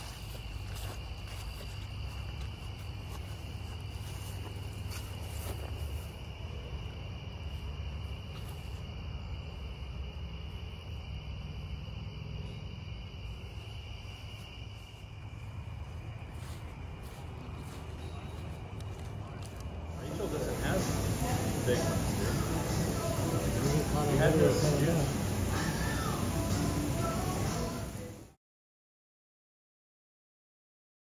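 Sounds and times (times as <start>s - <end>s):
crickets chirping: 0.0s - 28.4s.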